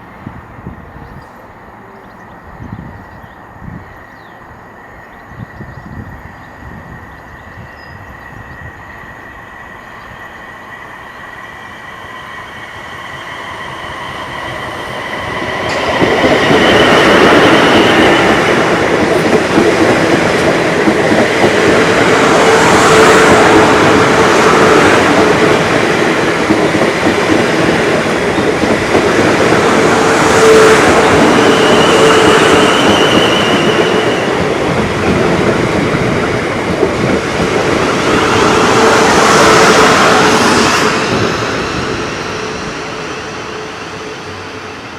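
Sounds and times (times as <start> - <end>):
train passing on rails: 0.0 - 44.9.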